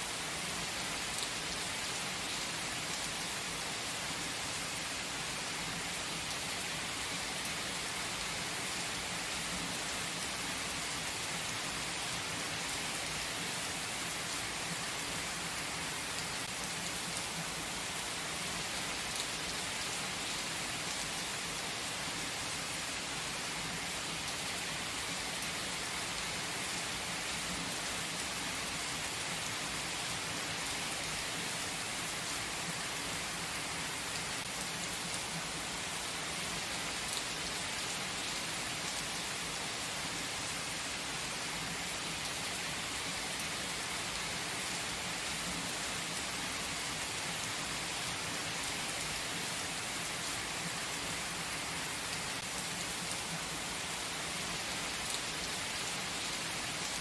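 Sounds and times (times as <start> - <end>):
rain falling on trees: 0.0 - 57.0.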